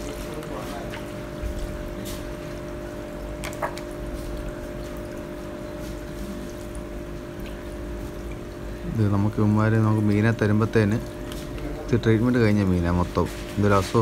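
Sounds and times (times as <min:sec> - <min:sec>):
steady low hum: 0:00.0 - 0:14.0
water trickling and splashing: 0:00.0 - 0:14.0.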